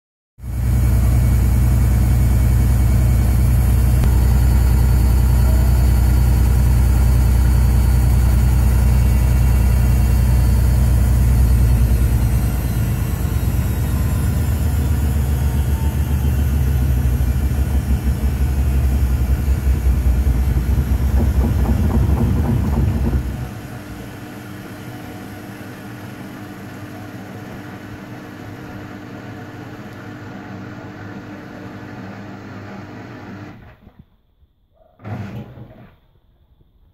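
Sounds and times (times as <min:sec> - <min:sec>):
washing machine spinning: 0:00.4 - 0:32.9.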